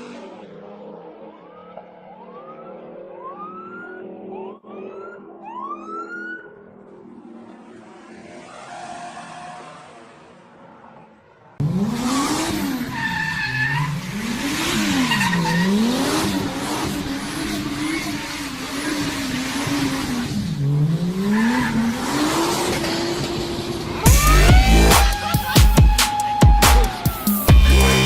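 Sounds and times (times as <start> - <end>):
car engine revving: 0.0 - 26.2, 26.8 - 28.0.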